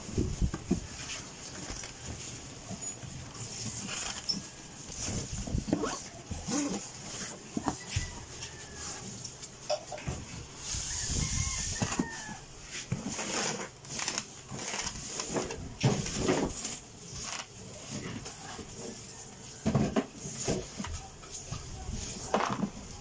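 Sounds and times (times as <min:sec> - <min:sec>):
cardboard and styrofoam scraping: 0:00.0 - 0:23.0.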